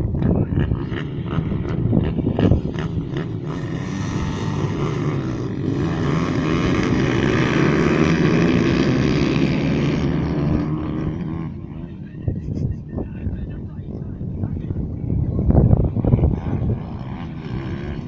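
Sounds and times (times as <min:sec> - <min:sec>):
small motorbike engines revving: 0:00.0 - 0:18.0.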